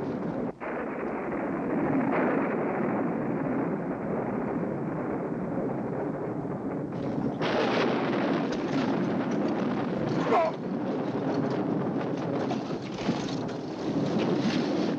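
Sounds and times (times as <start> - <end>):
rushing wind: 0.0 - 14.9.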